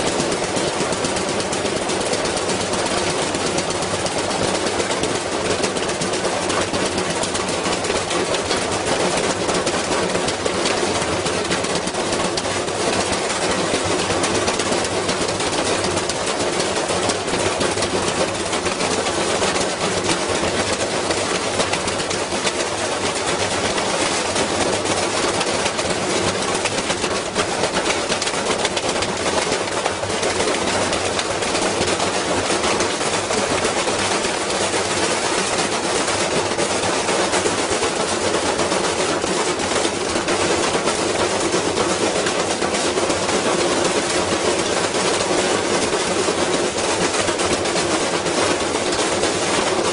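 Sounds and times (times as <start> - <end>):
washing machine spinning and banging: 0.0 - 49.9.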